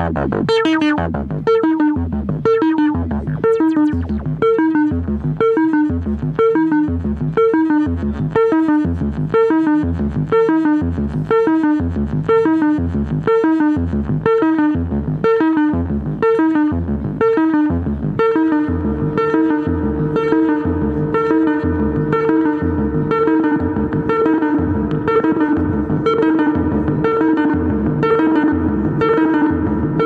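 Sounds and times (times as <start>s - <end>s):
deep bass pulse: 0.0s - 30.0s
synthesizer plucky sequenced notes: 0.0s - 30.0s.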